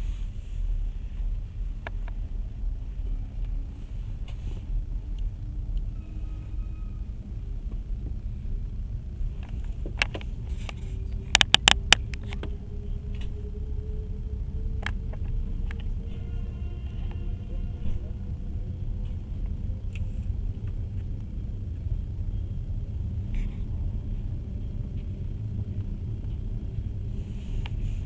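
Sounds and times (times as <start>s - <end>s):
faint rising whine: 0.0s - 28.0s
train rumbling on rails: 0.0s - 28.0s.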